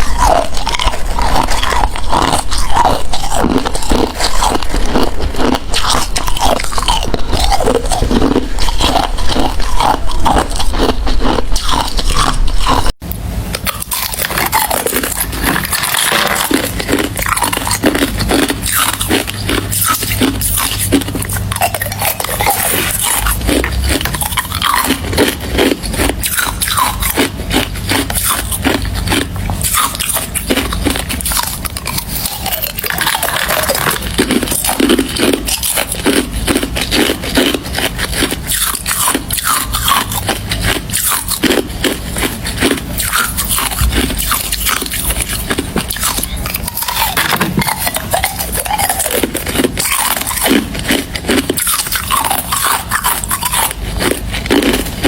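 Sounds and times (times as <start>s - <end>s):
person chewing ice: 0.0s - 55.0s.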